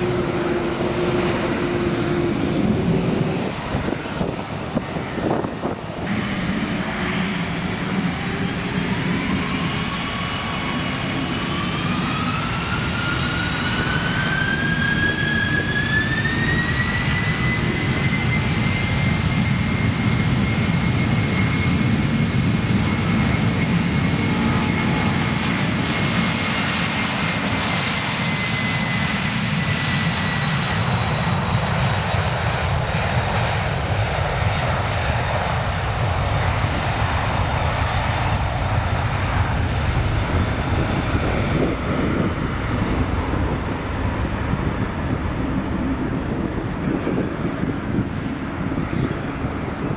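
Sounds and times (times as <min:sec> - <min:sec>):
jet engines whining: 0:00.0 - 0:49.9
jet rumble: 0:00.0 - 0:49.9.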